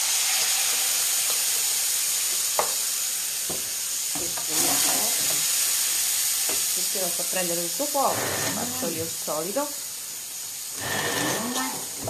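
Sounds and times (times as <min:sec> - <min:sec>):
prawns sizzling in a pan: 0:00.0 - 0:12.0.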